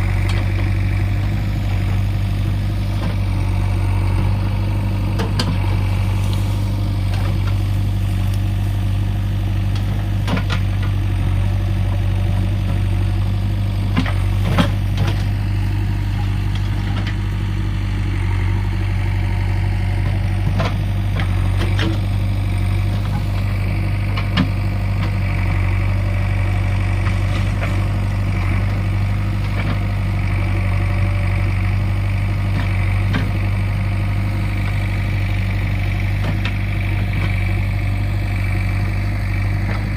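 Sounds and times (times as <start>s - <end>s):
diesel engine running at low revs: 0.0s - 39.9s.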